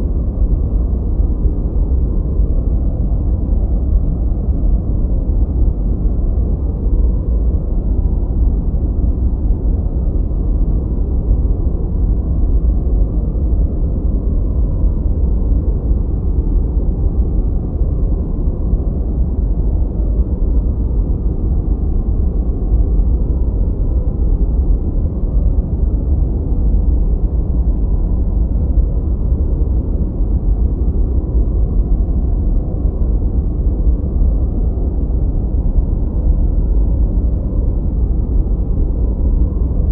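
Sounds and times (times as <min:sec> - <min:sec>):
deep rumbling generated noise: 0:00.0 - 0:39.9.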